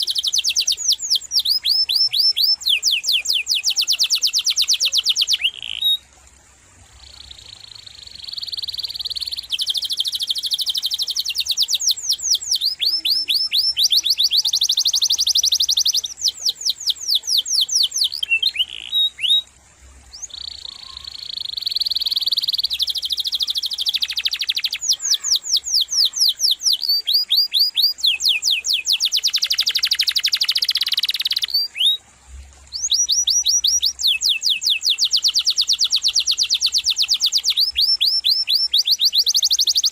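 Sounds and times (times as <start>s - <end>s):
canary singing trills: 0.0s - 6.1s, 6.9s - 19.5s, 20.1s - 32.0s, 32.7s - 39.9s.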